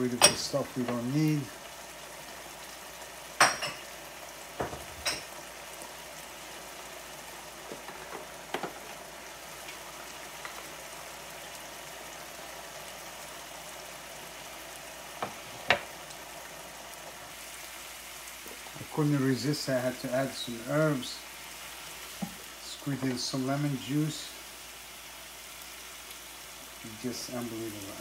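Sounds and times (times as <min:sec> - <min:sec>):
sauce simmering with sizzle: 0:00.0 - 0:28.0.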